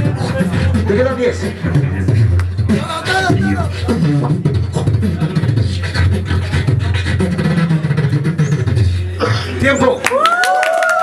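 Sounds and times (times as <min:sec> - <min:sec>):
person beatboxing into microphone: 0:00.0 - 0:10.0.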